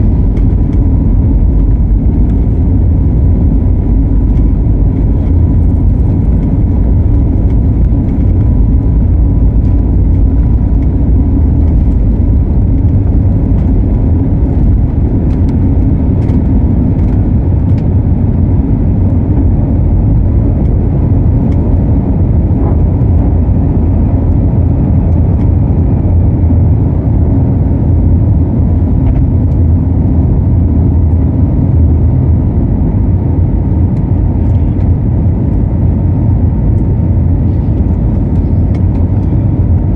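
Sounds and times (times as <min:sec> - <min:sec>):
faint whine: 0:00.0 - 0:39.9
jet engines rumbling and rushing air: 0:00.0 - 0:39.9.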